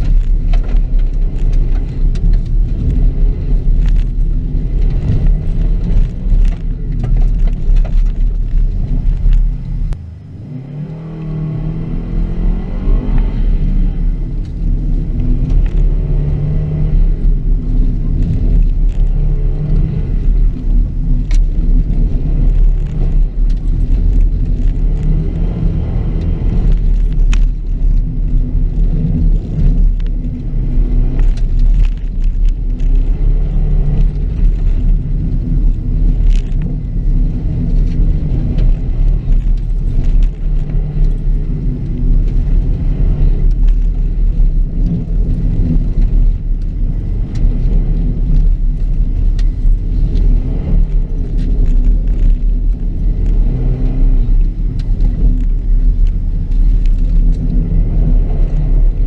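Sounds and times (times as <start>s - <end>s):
car engine revving: 0.0s - 59.0s
heavy low rumble: 0.0s - 59.0s.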